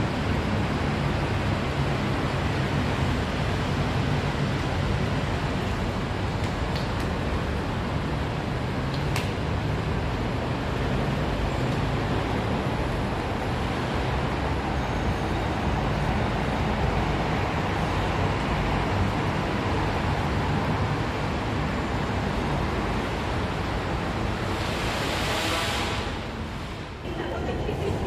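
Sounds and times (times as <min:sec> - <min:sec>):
road traffic: 0:00.0 - 0:28.0.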